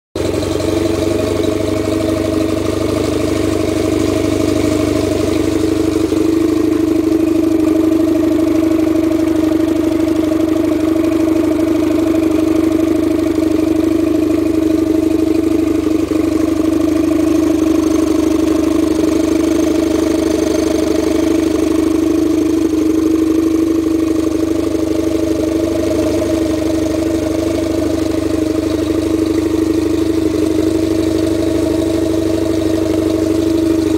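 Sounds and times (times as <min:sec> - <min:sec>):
outboard motor running: 0:00.2 - 0:33.9.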